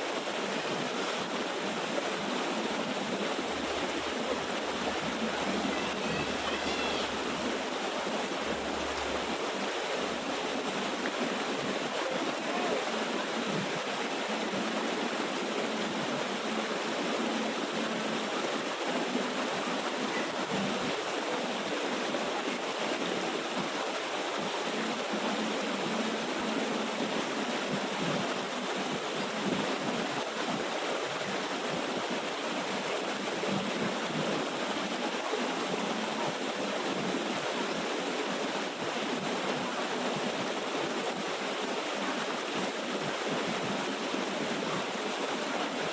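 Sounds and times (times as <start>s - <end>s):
waterfall rushing over rocks: 0.0s - 45.9s.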